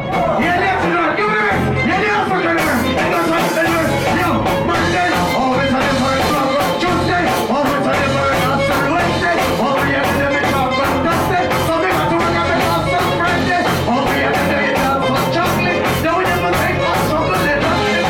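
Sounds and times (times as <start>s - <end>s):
bass line: 0.0s - 18.0s.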